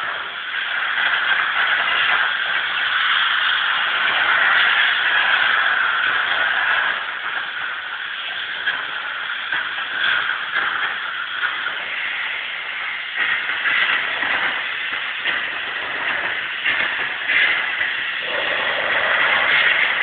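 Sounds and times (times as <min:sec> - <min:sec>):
steam hissing from nozzle: 0:00.0 - 0:20.0.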